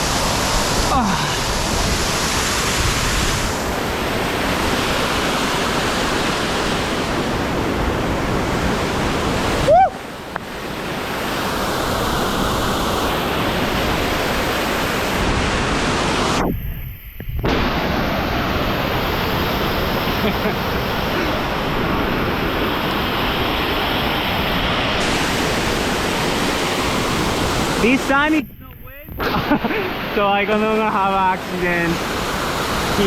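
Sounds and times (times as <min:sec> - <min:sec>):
waterfall rushing: 0:00.0 - 0:16.4, 0:17.5 - 0:33.0.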